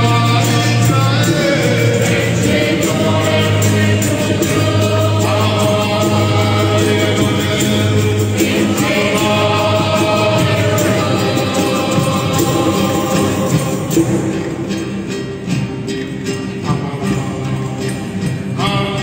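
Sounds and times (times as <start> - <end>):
instrumental accompaniment with steady beat: 0.0 - 19.0.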